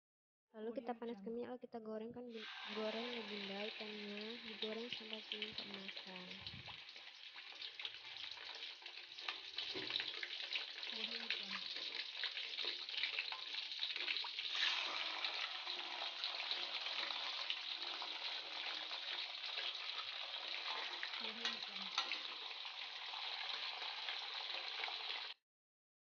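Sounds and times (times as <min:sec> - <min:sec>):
fish deep-frying in oil: 0:02.3 - 0:25.4.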